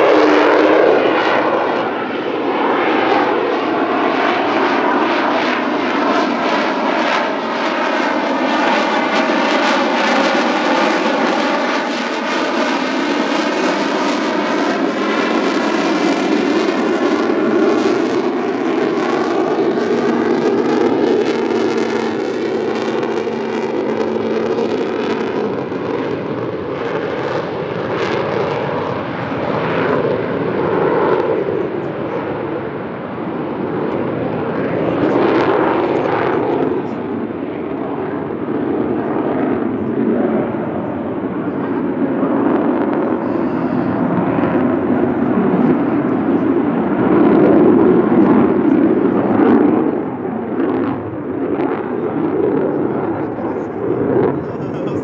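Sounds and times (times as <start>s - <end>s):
fighter jet rumble overhead: 0.0s - 55.0s.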